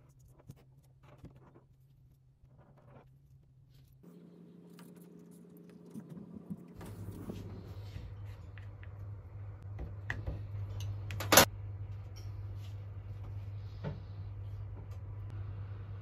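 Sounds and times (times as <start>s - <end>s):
steady low hum: 2.4s - 16.0s.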